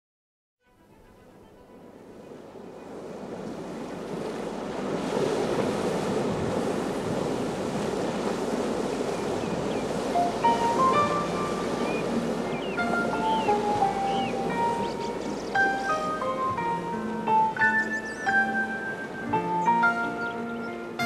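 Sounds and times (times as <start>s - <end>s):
ocean waves washing: 1.1s - 21.0s.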